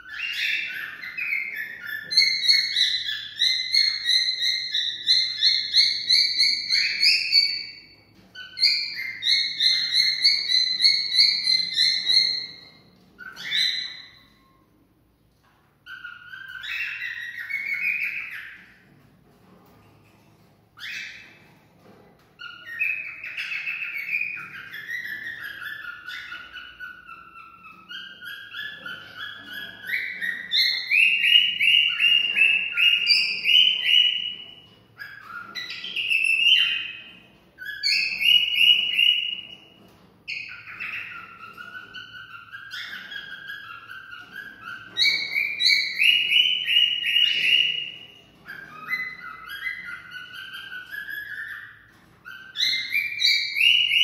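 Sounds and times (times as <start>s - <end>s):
cockatiel whistling: 0.0s - 14.6s, 15.9s - 18.7s, 20.8s - 21.4s, 22.4s - 54.0s.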